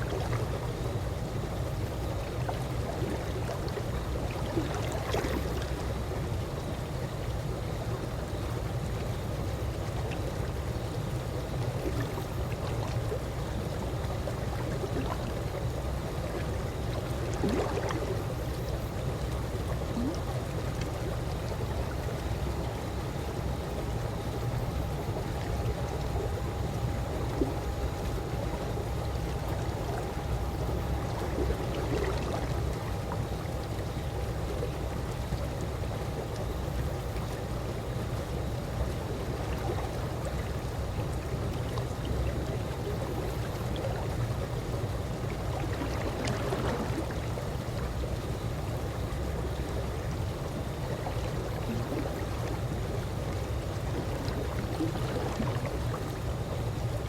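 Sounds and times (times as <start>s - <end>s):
faint steady hum: 0.0s - 57.0s
pool water moving: 0.0s - 57.0s
soft water splashes: 0.0s - 57.0s.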